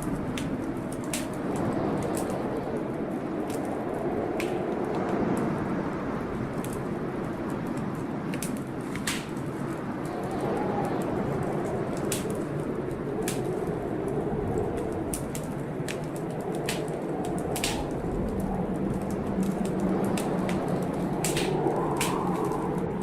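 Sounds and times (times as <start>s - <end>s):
rain: 0.0s - 23.0s
storm wind: 0.0s - 23.0s
wood fire crackling and popping: 0.0s - 23.0s.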